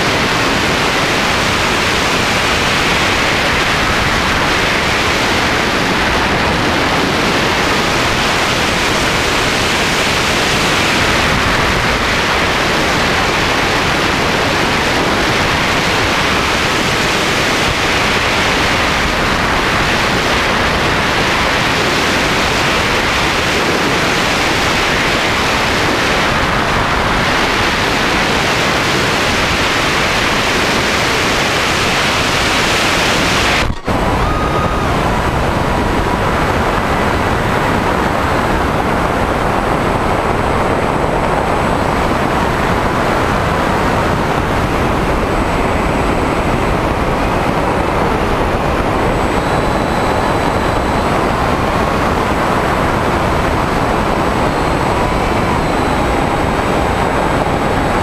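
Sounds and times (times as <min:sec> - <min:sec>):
loud wind rush: 0:00.0 - 0:58.0.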